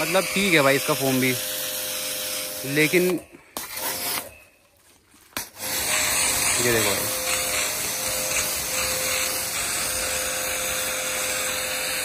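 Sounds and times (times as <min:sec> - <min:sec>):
pressure washer spraying: 0:00.0 - 0:04.3, 0:05.6 - 0:12.0.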